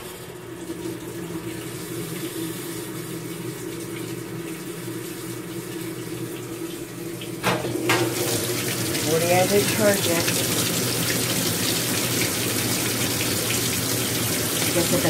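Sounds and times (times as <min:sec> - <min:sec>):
water spraying into washer drum: 0:00.0 - 0:15.0.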